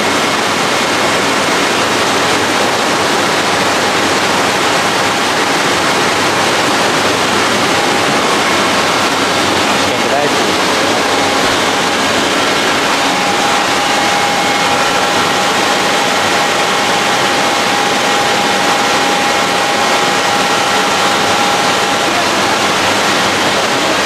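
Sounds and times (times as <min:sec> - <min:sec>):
circulating water rushing: 0:00.0 - 0:24.0
mid-pitched hum: 0:00.0 - 0:24.0.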